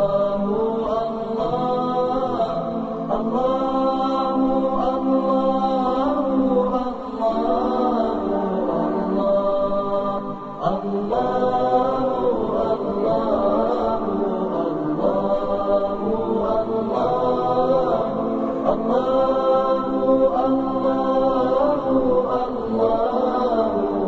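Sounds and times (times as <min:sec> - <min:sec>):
choir singing wordless aahs: 0:00.0 - 0:24.0.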